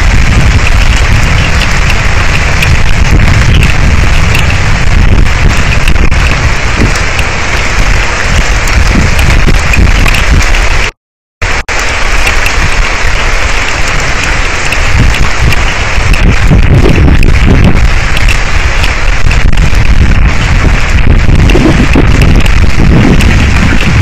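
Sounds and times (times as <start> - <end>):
heavy rain pouring: 0.0 - 24.0
low rumble: 0.0 - 24.0.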